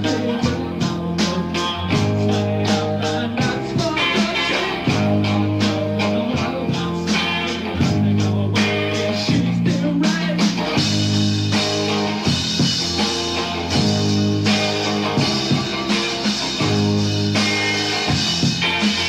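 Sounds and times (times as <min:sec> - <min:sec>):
rock guitar and bass chords: 0:00.0 - 0:19.0.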